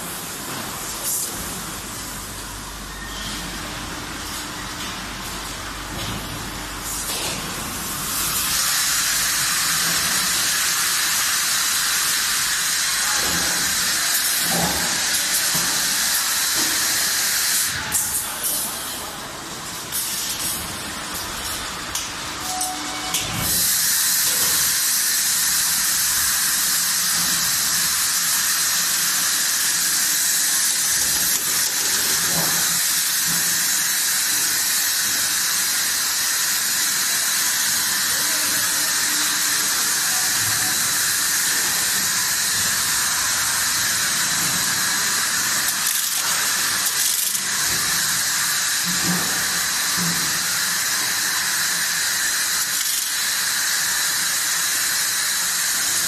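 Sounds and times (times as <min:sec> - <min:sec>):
bottling machine hissing: 0:00.0 - 0:56.0.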